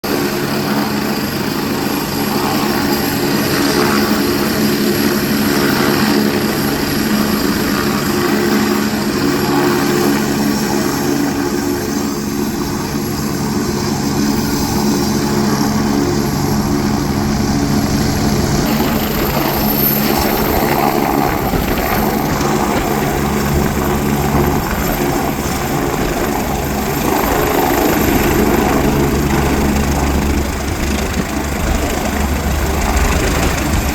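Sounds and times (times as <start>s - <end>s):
helicopter engine and rotor: 0.0s - 33.9s.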